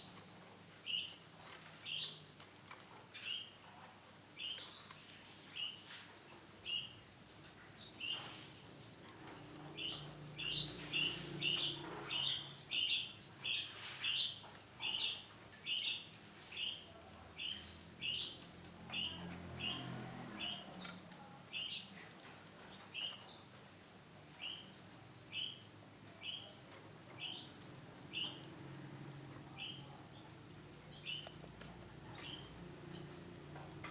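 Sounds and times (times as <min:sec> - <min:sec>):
canary chirping: 0:00.0 - 0:33.9.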